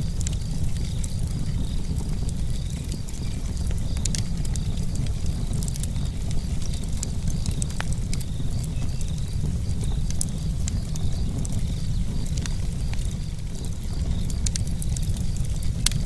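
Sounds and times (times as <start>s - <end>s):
faint crackles: 0.0s - 16.0s
wind on microphone: 0.0s - 16.0s.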